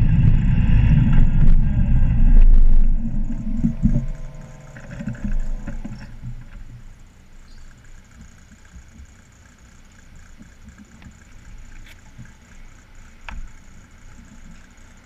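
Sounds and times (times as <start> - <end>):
motorcycle engine idling: 0.0 - 15.0
motorcycle engine rumble: 0.0 - 15.0.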